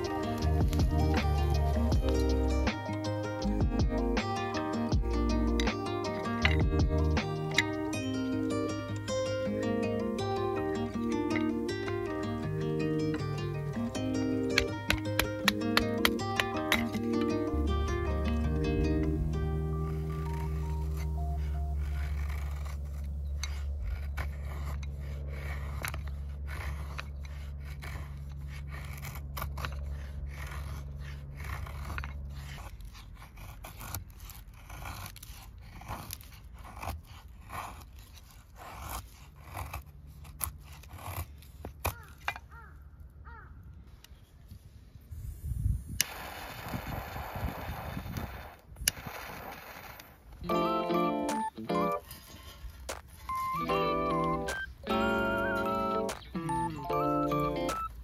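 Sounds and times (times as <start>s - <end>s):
knife scraping wood: 0.0s - 43.4s, 48.8s - 58.0s.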